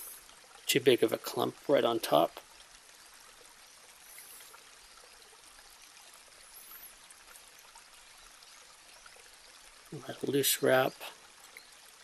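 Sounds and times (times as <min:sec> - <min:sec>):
faint background hiss: 0:00.0 - 0:12.0
small ticks and rustles: 0:00.0 - 0:12.0.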